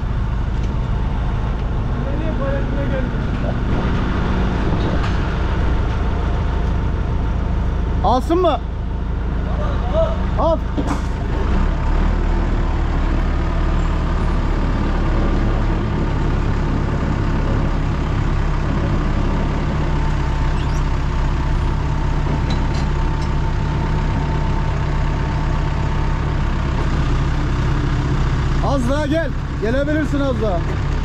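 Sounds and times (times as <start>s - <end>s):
heavy vehicle engine running: 0.0s - 31.0s.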